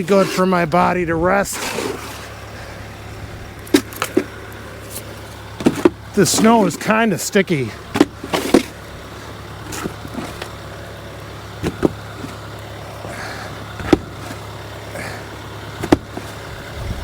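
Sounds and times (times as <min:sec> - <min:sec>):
snow shovel scraping pavement: 0:00.0 - 0:16.9
steady low hum: 0:00.0 - 0:17.0.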